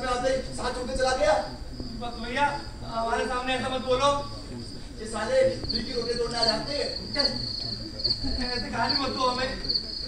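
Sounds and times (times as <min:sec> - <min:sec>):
cricket chirping: 0:00.0 - 0:10.0
indistinct voices: 0:00.0 - 0:10.0.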